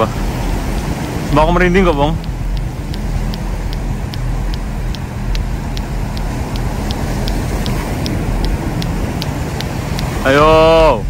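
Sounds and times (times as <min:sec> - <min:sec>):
heavy surf and wind roar: 0:00.0 - 0:11.0.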